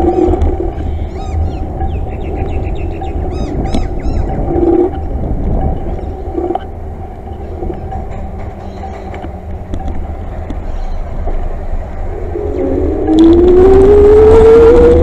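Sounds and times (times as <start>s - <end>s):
low rumble of wheels: 0.0s - 15.0s.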